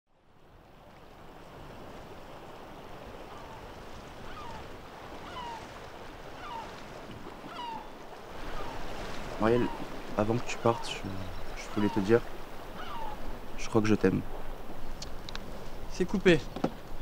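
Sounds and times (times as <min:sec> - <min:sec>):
sea surf: 0:00.2 - 0:17.0.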